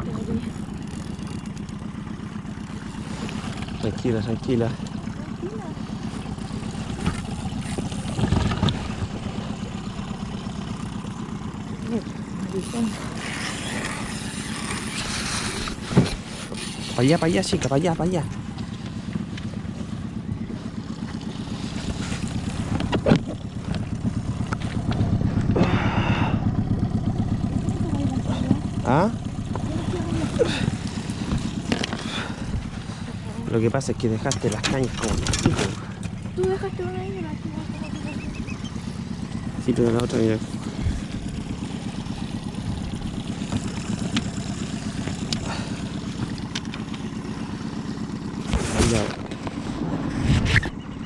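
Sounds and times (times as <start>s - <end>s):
outboard boat motor running: 0.0s - 51.0s.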